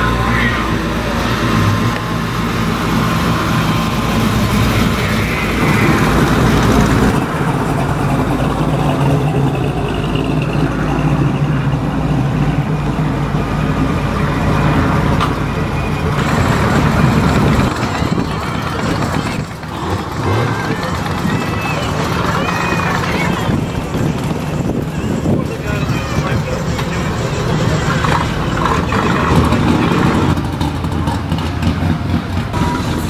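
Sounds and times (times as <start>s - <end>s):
hot rod engines driving past: 0.0s - 33.0s.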